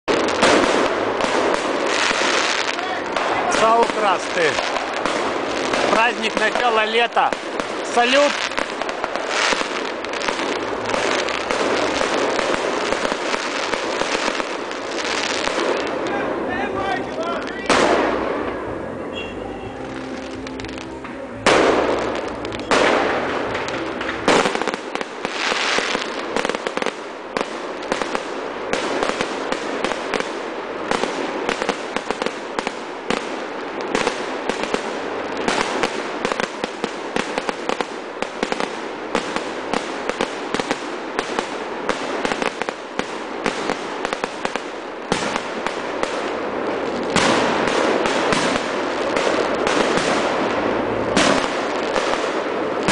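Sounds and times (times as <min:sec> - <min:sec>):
fireworks bangs: 0:00.0 - 0:52.9
fireworks crackling pops: 0:00.0 - 0:52.9.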